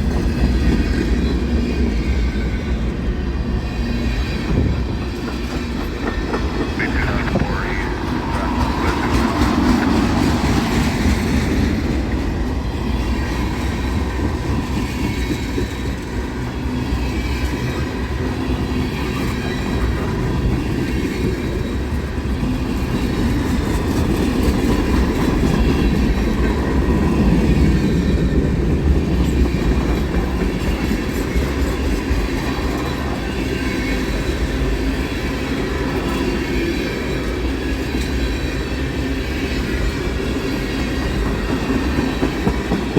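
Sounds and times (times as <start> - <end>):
freight train rumbling past: 0.0 - 42.9.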